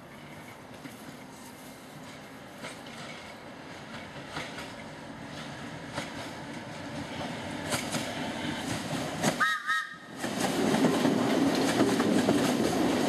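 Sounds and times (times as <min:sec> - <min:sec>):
electric train passing on rails: 0:00.0 - 0:13.0.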